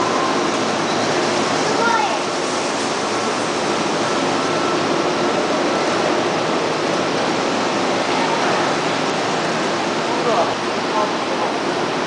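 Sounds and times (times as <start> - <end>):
train rushing past: 0.0 - 12.0.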